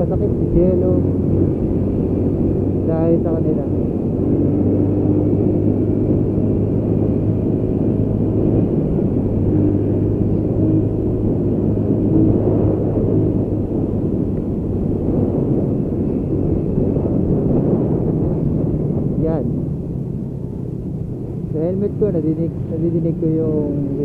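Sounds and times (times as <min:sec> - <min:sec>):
motorcycle engine humming: 0:00.0 - 0:24.0
wind and road noise: 0:00.0 - 0:24.0.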